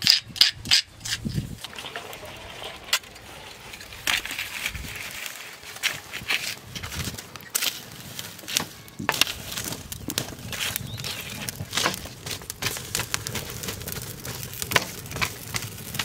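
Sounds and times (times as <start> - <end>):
fire crackling: 0.0 - 16.0
paper and ash rustling: 1.0 - 16.0.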